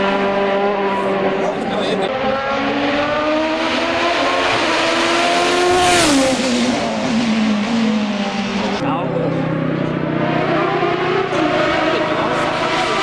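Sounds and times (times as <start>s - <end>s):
race car accelerating past: 0.0s - 13.0s.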